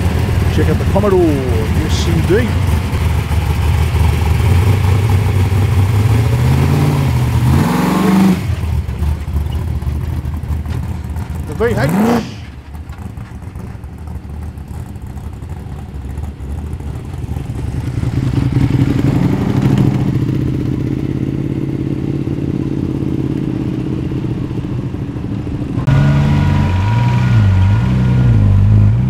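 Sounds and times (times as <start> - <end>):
car engine driving off: 0.0 - 29.0
loud engine wavering pitch: 0.0 - 29.0.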